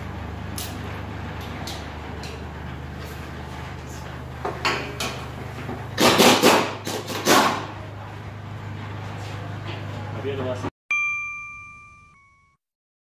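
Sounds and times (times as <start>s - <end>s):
low machine hum: 0.0s - 10.7s.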